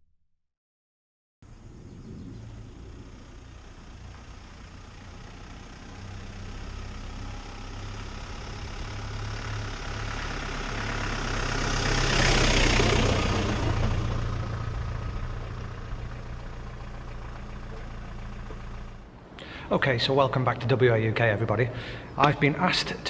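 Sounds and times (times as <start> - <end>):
off-road vehicle engine passing: 1.5 - 23.0.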